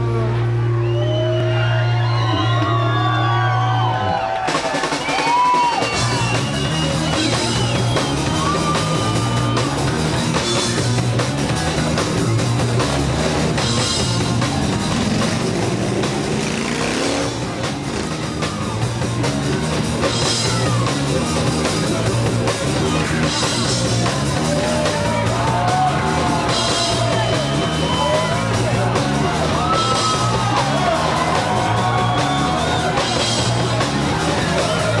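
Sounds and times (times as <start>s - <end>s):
rock band playing loud: 0.0s - 35.0s.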